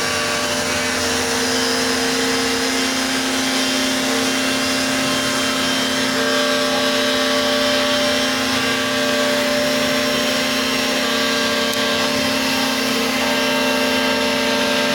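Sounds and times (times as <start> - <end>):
electric sander running: 0.0 - 14.9.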